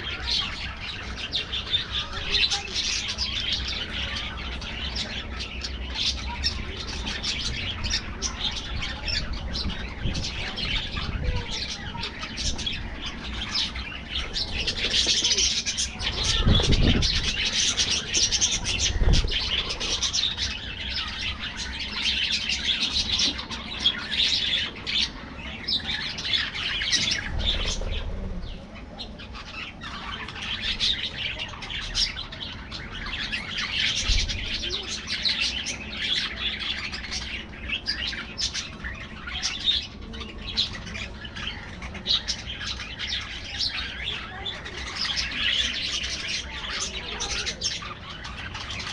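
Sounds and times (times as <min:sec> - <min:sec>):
budgerigars chattering and warbling: 0:00.0 - 0:48.9.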